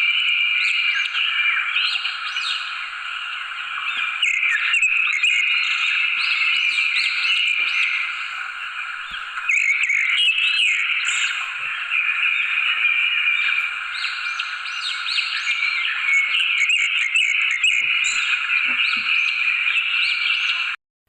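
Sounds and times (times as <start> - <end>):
small animals chirping: 1.0 - 20.8.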